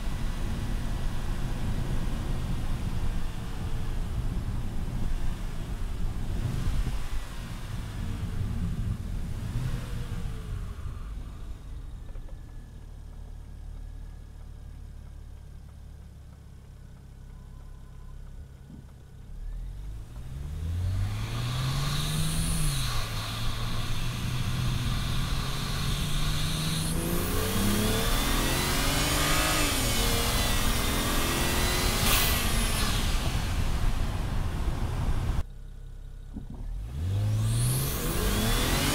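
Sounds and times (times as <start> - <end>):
car engine idling and accelerating: 0.0 - 38.9.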